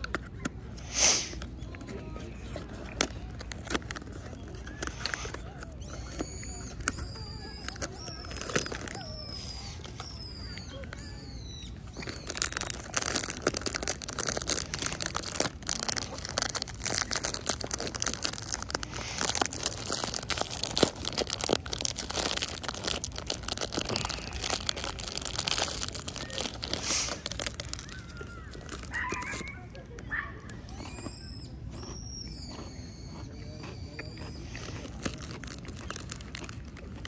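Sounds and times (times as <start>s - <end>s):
plastic packaging crinkling and tearing: 0.0s - 30.5s, 34.4s - 37.0s.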